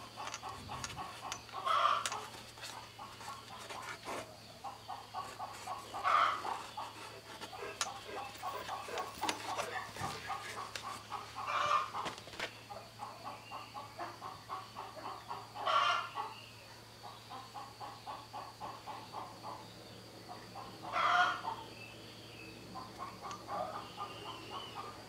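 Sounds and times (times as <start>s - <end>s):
chickens clucking: 0.0s - 21.9s, 22.6s - 25.0s.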